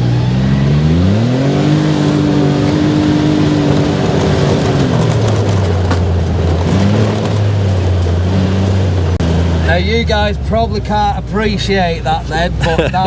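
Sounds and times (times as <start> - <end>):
buggy bouncing over rough ground: 0.0 - 13.0
buggy engine revving: 0.0 - 13.0.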